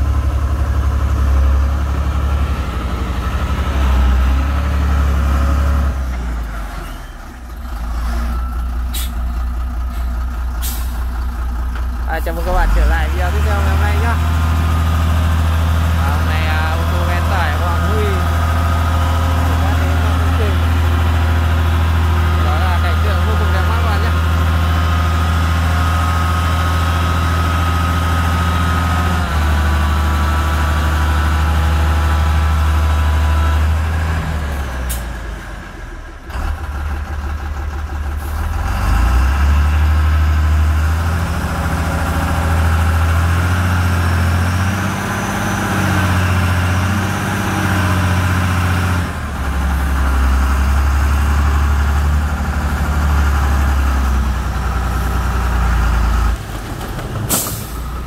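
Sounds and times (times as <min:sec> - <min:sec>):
diesel truck engine revving: 0:00.0 - 0:58.0.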